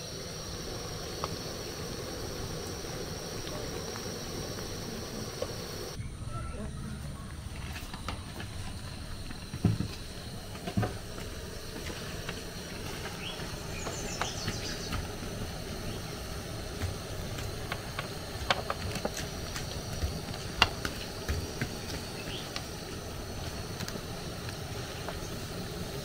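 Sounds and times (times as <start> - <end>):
dough balls deep-frying in oil: 0.0 - 6.0, 7.4 - 26.0.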